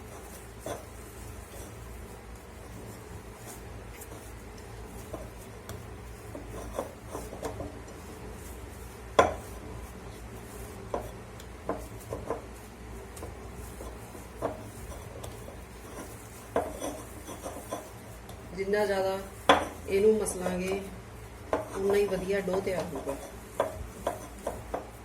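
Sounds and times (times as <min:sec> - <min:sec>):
dough being kneaded by hand: 0:00.0 - 0:25.0.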